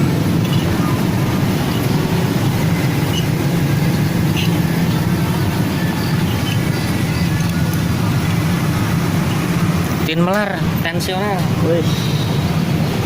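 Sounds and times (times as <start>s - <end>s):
motor vehicles rumbling: 0.0s - 13.0s.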